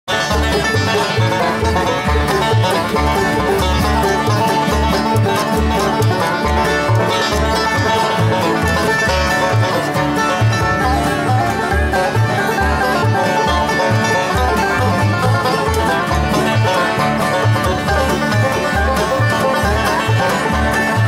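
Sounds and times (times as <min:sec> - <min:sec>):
banjo picking: 0:00.0 - 0:21.0
mandolin: 0:00.0 - 0:21.0
acoustic guitars: 0:00.1 - 0:21.0
upright bass plucking: 0:00.1 - 0:21.0.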